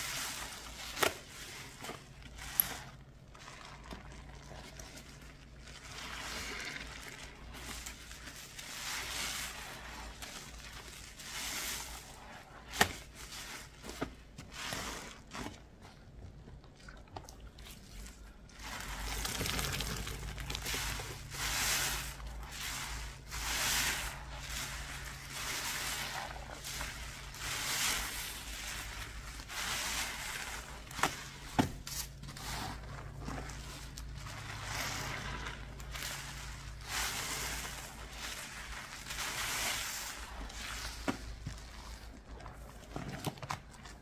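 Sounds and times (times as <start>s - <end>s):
paste swishing and sloshing: 0.0s - 44.0s.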